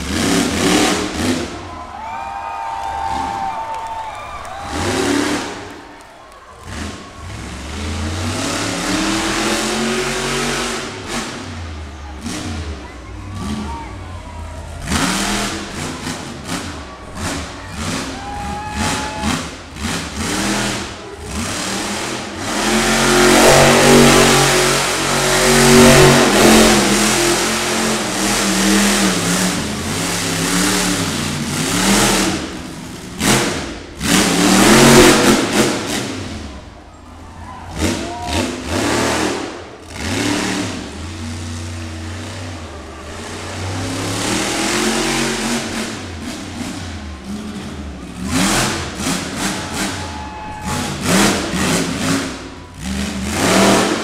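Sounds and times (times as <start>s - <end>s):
truck engine revving hard: 0.0s - 54.0s.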